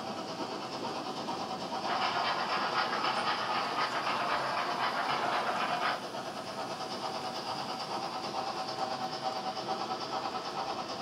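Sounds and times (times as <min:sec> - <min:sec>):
model train whirring on rails: 0:00.0 - 0:11.0.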